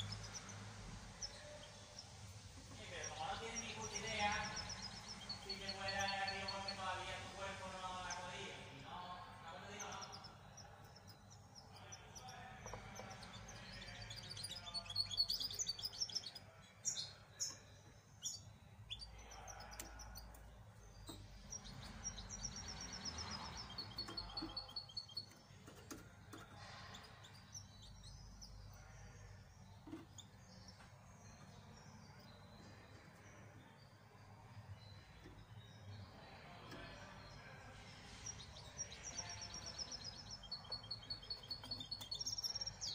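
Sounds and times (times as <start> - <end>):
songbird singing chirpy phrases: 0.0 - 42.9.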